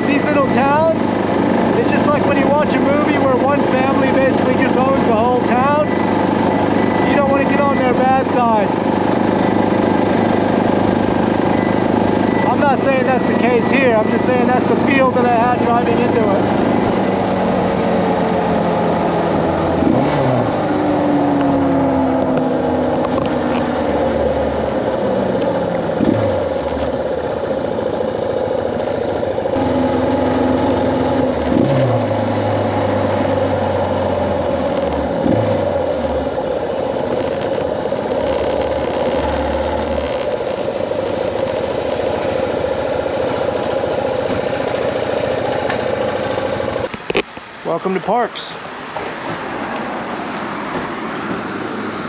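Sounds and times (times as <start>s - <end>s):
motorcycle engine running: 0.0s - 47.2s.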